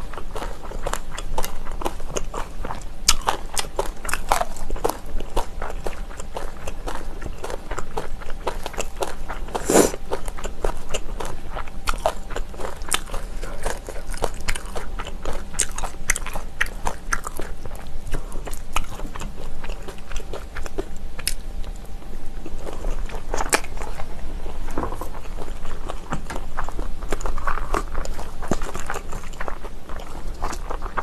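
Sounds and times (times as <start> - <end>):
person chewing crunchy food: 0.0 - 31.0.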